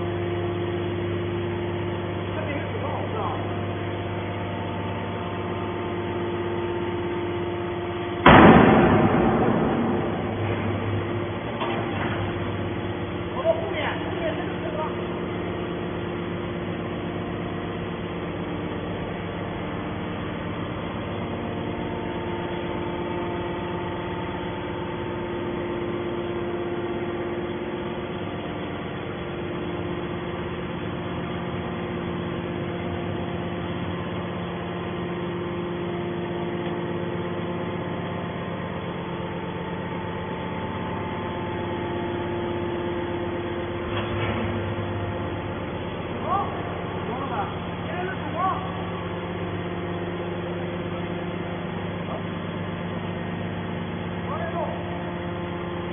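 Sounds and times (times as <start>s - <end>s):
hydraulic motor and pump humming: 0.0s - 55.9s.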